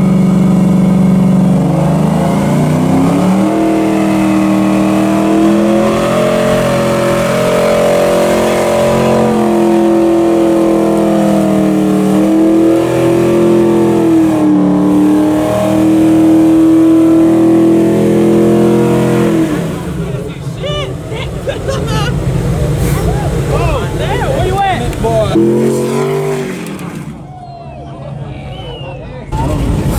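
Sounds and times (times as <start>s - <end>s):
vehicle engine at raised revs: 0.0s - 27.3s.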